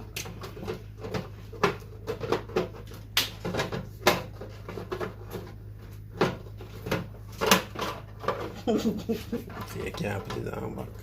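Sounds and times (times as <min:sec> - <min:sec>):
plastic parts clicking and knocking: 0:00.0 - 0:08.7, 0:09.4 - 0:11.0.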